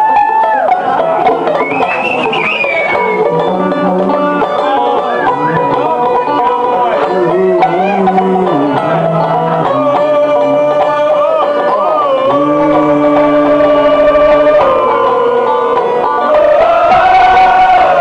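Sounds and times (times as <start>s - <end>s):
banjos playing country tune: 0.0s - 18.0s
long wavering held notes: 0.8s - 18.0s.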